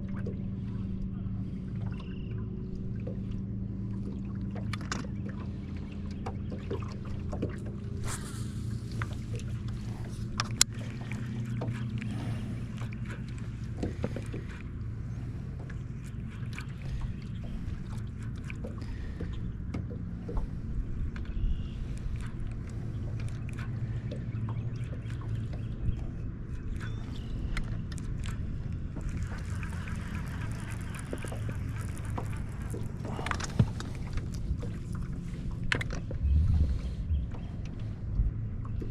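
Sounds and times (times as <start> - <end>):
boat motor humming: 0.0 - 38.9.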